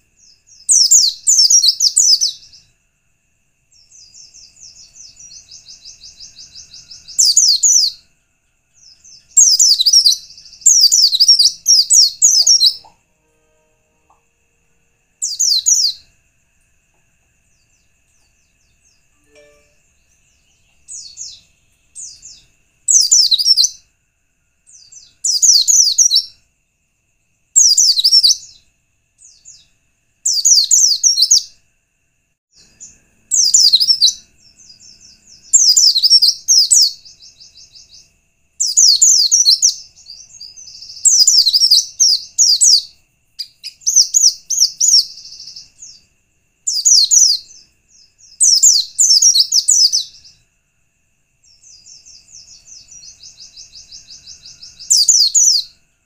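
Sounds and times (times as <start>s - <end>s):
bird twittering song: 0.0s - 2.8s, 3.7s - 13.1s, 15.2s - 16.3s, 16.9s - 23.9s, 24.6s - 26.4s, 27.6s - 31.6s, 32.6s - 50.4s, 51.4s - 55.8s.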